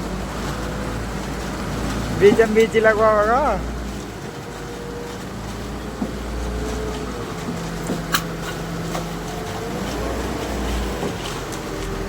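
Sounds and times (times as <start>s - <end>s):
concrete mixer engine rumbling: 0.0s - 12.0s.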